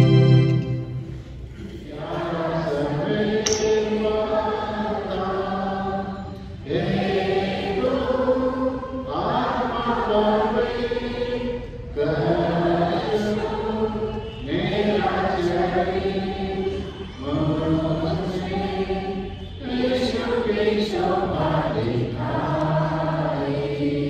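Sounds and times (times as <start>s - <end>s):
congregation singing a hymn: 0.0s - 24.0s.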